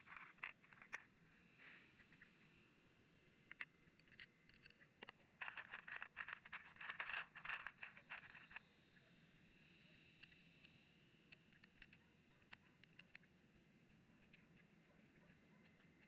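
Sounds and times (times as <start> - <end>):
faint scraping and clicking: 0.0 - 16.0.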